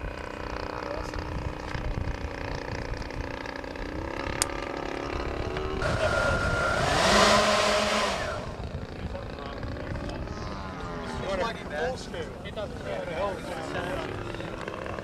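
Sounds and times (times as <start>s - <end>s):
electric ducted fan whine: 0.0s - 15.0s.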